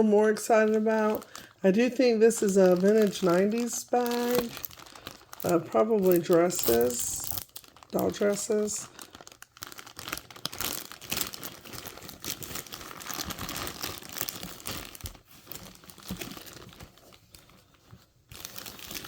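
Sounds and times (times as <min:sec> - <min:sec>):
bag crinkling and rustling: 0:00.4 - 0:19.0.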